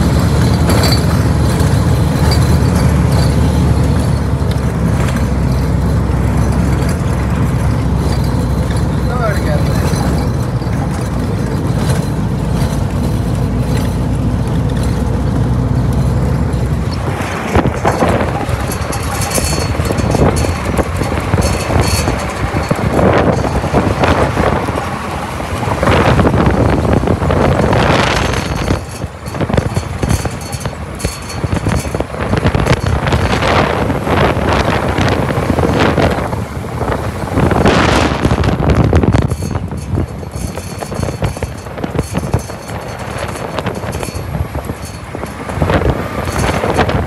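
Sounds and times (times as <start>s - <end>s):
vehicle engine: 0.0s - 47.0s
wind buffeting microphone: 0.0s - 47.0s.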